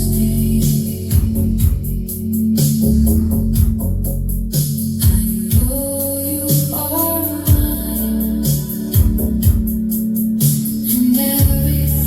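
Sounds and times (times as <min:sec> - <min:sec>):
bass: 0:00.0 - 0:12.0
steady drum beat: 0:00.0 - 0:12.0.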